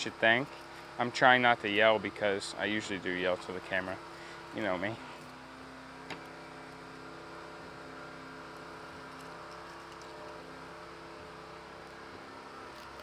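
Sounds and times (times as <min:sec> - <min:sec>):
steady hum of held tones: 0:00.0 - 0:13.0.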